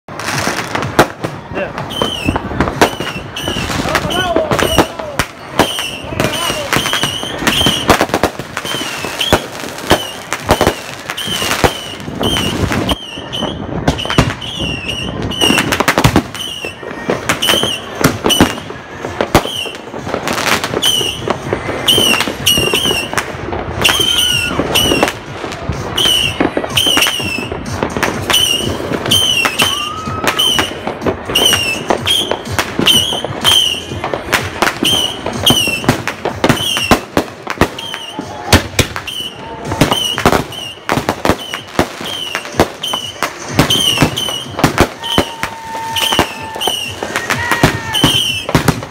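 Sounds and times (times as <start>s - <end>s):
firecrackers cracking and banging: 0.1s - 48.9s.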